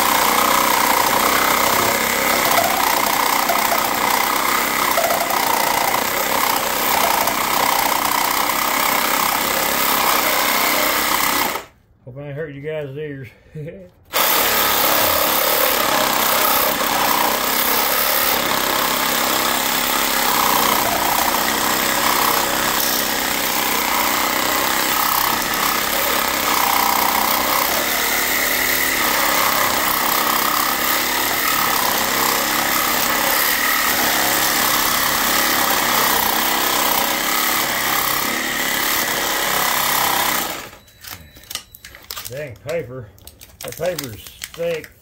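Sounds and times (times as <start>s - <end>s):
reciprocating saw cutting: 0.0s - 11.7s, 14.1s - 40.8s.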